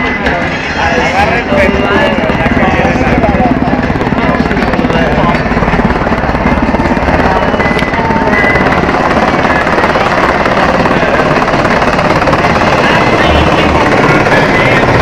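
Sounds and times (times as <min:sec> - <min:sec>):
helicopter rotor blades chopping: 0:00.0 - 0:15.0.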